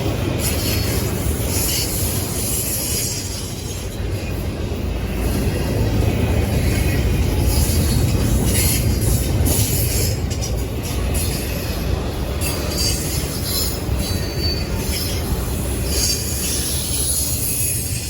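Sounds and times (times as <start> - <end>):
freight train wheels rumbling on rail: 0.0 - 18.0
train cars hissing and rattling: 0.0 - 18.0
wheel flanges squealing: 0.0 - 18.0.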